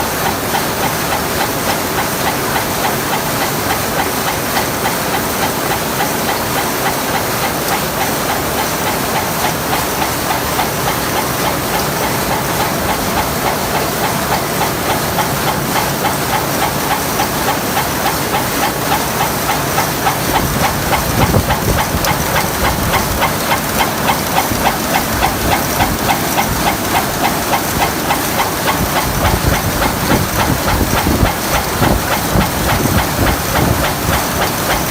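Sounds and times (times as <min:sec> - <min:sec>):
machines clattering: 0:00.0 - 0:34.9.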